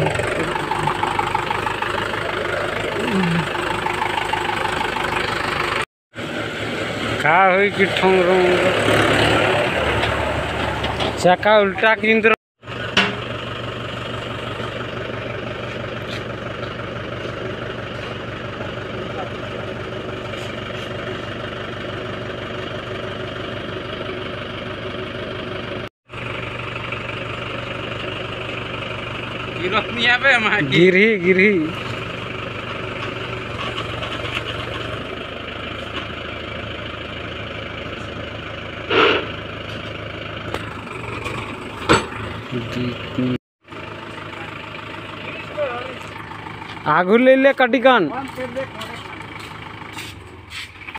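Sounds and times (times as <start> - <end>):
tractor diesel engine idling: 0.0 - 50.9.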